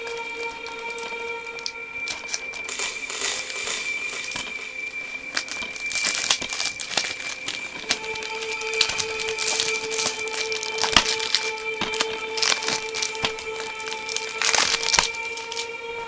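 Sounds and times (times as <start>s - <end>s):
rustling and crinkling: 0.0s - 16.0s
steady high tone: 0.0s - 16.0s.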